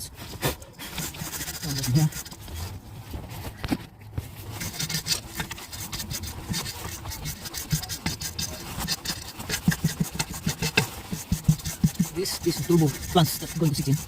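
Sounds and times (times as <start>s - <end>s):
wire brush scraping metal: 0.4s - 2.8s, 4.4s - 14.0s.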